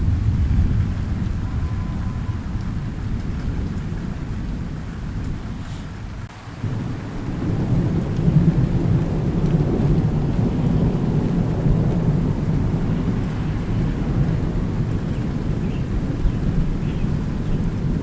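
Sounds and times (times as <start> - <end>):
low thunder rumble: 0.0 - 18.0
steady rain: 0.0 - 18.0.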